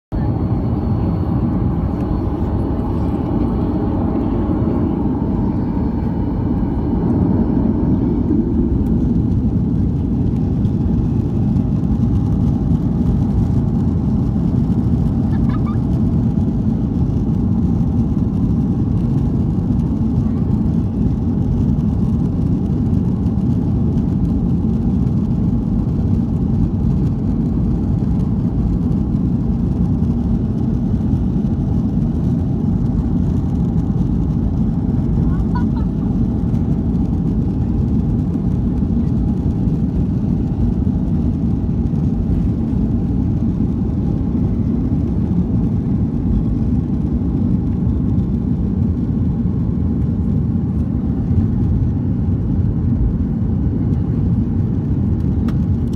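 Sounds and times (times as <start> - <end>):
aircraft cabin rumble: 0.1 - 55.9
jet engines running: 0.1 - 55.9.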